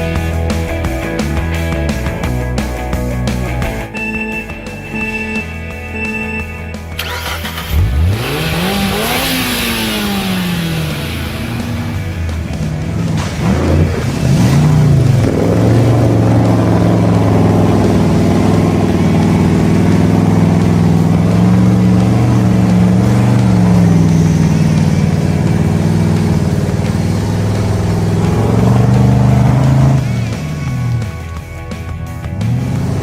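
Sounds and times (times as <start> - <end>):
engine revving and running: 0.0 - 33.0.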